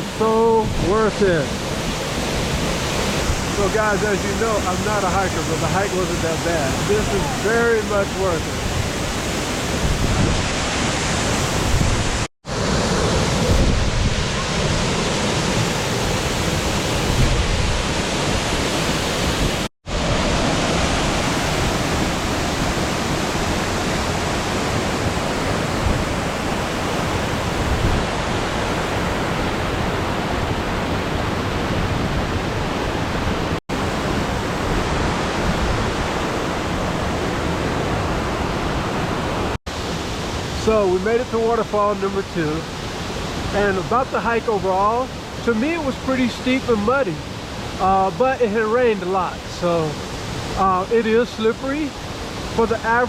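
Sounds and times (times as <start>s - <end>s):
waterfall roaring: 0.0s - 53.0s.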